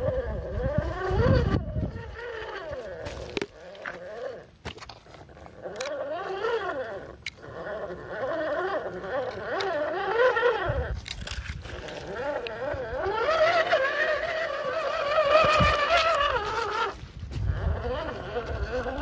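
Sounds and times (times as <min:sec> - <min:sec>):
toy car electric motor whining: 0:00.0 - 0:19.0.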